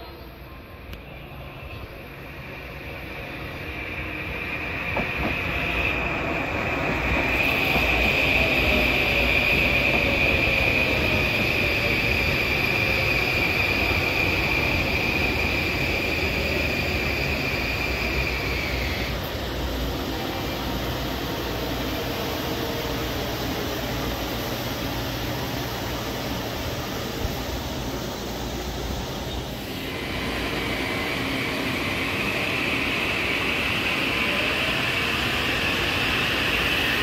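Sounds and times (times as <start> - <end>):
electric train rumbling past: 0.0 - 37.0.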